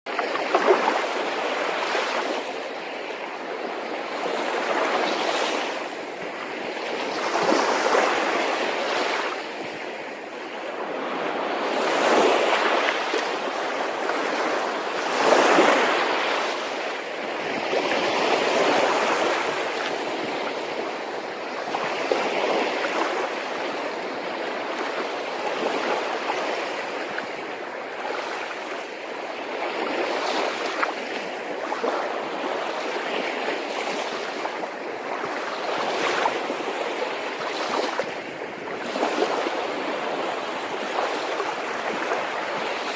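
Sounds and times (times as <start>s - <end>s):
sea waves breaking on a beach: 0.1s - 42.9s.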